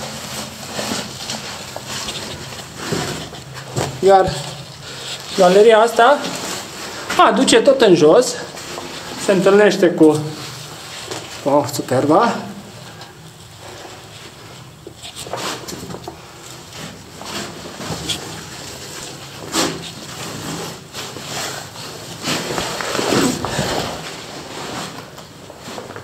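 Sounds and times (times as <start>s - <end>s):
scraping and shuffling against rock: 0.0s - 26.0s.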